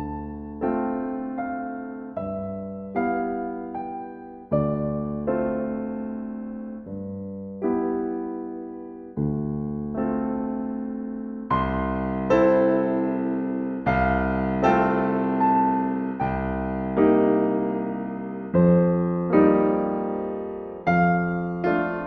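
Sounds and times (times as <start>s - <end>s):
slow solo piano chords: 0.0s - 22.0s.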